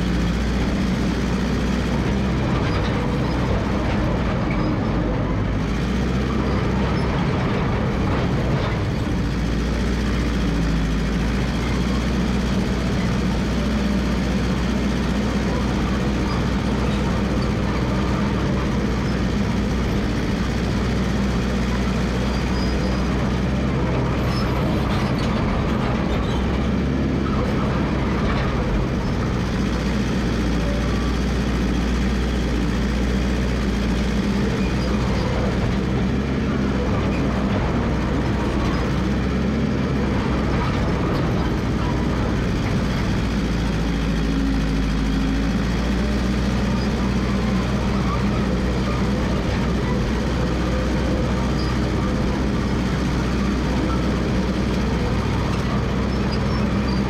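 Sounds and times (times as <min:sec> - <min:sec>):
dozer engine droning: 0:00.0 - 0:57.0.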